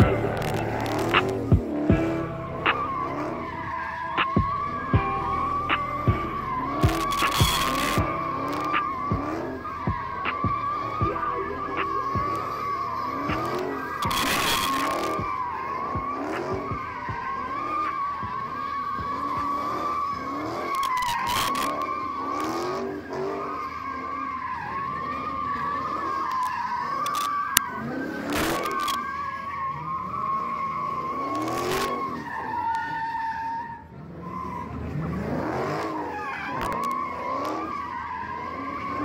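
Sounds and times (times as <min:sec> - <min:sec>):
car engine revving: 0:00.0 - 0:39.0
tyres squealing: 0:00.0 - 0:39.0.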